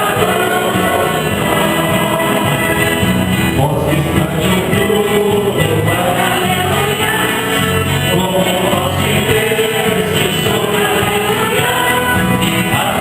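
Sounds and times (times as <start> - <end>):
group singing: 0.0 - 13.0
instrumental accompaniment: 0.0 - 13.0.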